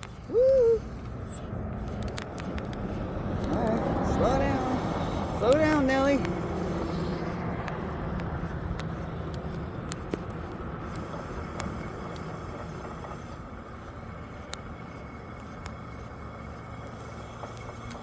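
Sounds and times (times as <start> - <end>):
bike wheels rolling: 0.0 - 18.0
small clicks and rattles: 0.0 - 18.0.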